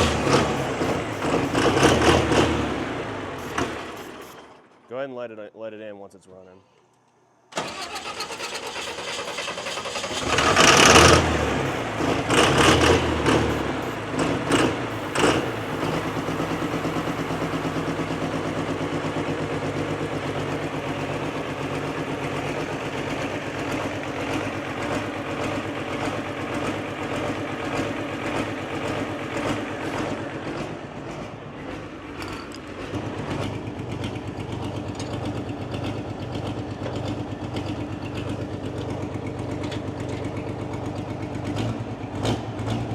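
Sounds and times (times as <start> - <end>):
tractor diesel engine surging: 0.0 - 4.9, 7.5 - 42.9.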